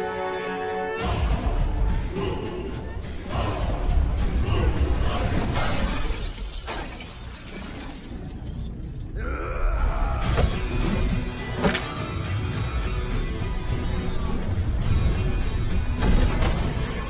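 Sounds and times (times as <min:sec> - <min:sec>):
dramatic film score: 0:00.0 - 0:06.2, 0:08.7 - 0:17.0.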